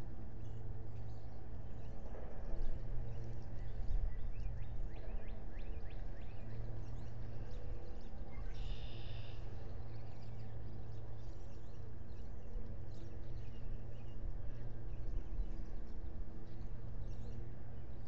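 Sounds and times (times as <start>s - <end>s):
low hum and rumble: 0.0s - 18.0s
faint bird chirps: 0.4s - 17.4s.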